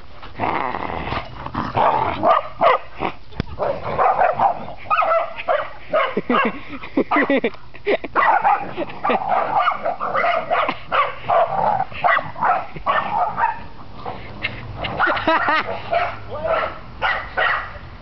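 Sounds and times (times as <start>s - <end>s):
dogs barking: 1.7s - 7.5s, 8.1s - 17.8s.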